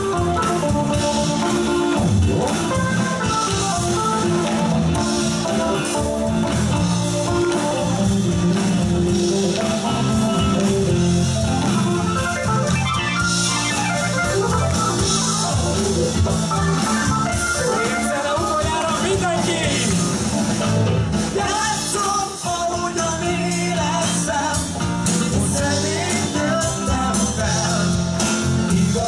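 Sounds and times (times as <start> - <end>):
bass guitar: 0.0 - 29.0
drum kit: 0.0 - 29.0
electric guitar: 0.0 - 29.0
keyboard: 0.0 - 29.0.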